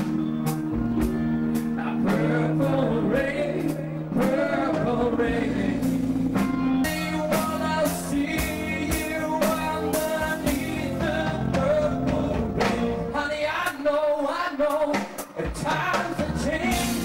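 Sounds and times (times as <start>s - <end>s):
keyboard chords: 0.0s - 13.6s
bass guitar: 0.0s - 13.8s, 15.4s - 17.0s
person singing: 1.0s - 17.0s.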